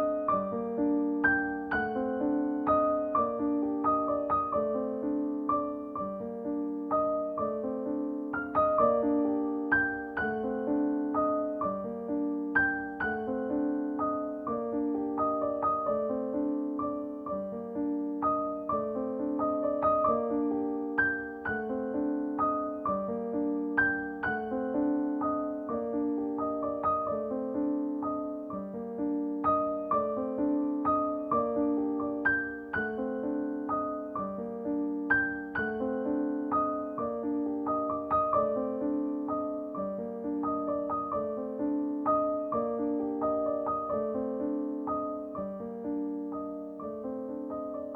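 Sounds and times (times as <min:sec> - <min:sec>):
gentle piano music: 0:00.0 - 0:47.9.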